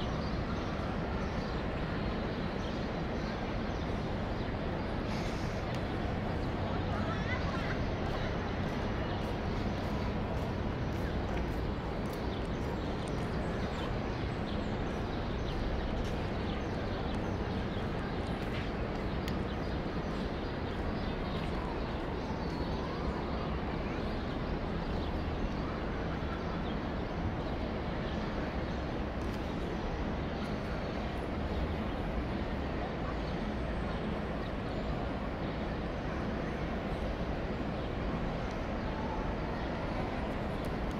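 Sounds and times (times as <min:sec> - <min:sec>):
distant traffic rumble: 0:00.0 - 0:40.9.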